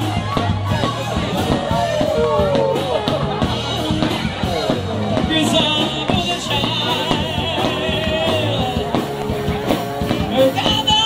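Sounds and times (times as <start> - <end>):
rock music with singing: 0.0 - 11.0.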